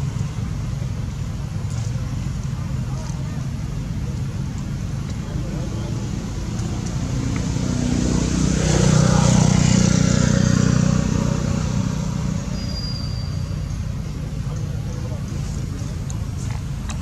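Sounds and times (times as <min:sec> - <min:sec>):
vehicle engine rumble passing: 0:00.0 - 0:17.0.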